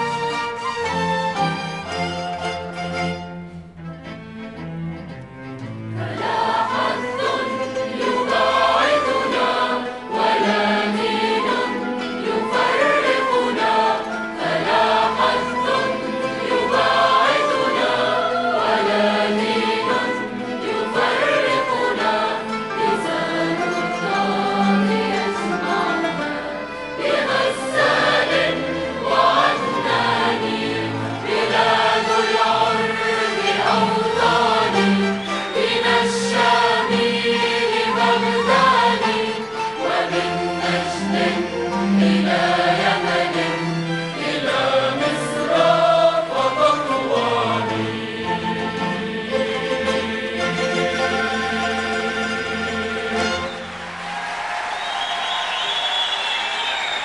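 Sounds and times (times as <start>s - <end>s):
orchestral accompaniment: 0.0s - 54.6s
large choir singing: 5.6s - 57.0s.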